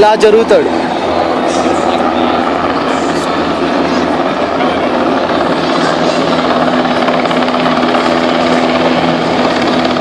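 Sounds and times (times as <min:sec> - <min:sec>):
helicopter flying close by: 0:00.0 - 0:10.0.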